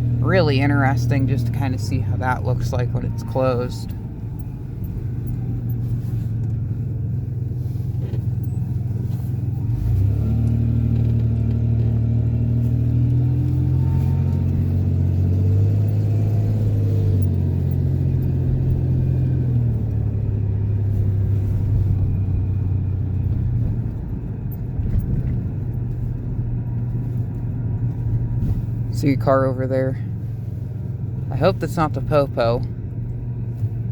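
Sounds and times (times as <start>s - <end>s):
road rumble: 0.0s - 33.9s
vehicle engine accelerating: 0.0s - 33.9s.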